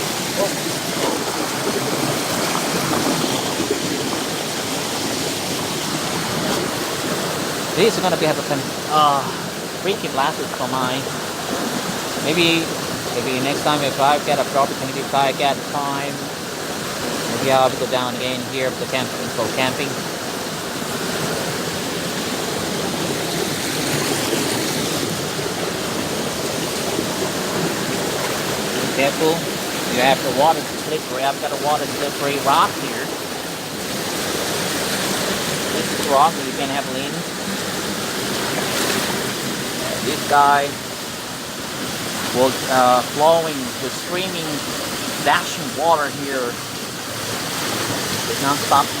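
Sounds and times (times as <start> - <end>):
creek rushing over rocks: 0.0 - 49.0.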